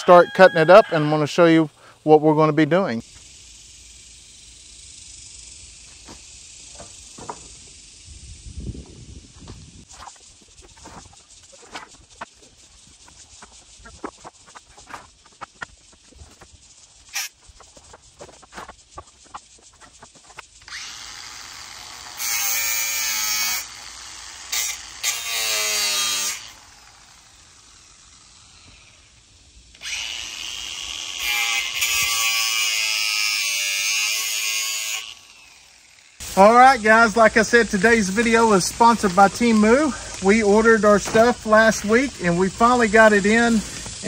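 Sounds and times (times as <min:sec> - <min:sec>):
circular saw cutting wood: 0:00.0 - 0:44.0.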